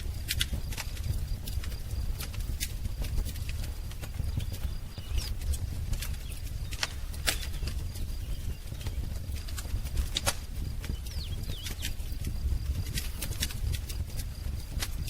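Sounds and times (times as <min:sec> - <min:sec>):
wood fire crackling: 0:00.0 - 0:15.0
birds chirping: 0:00.6 - 0:15.0.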